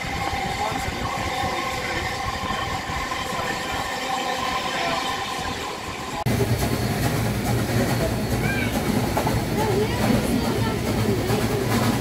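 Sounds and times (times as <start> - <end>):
train carriage rumbling: 0.0 - 12.0
train wheels on rails: 0.0 - 12.0.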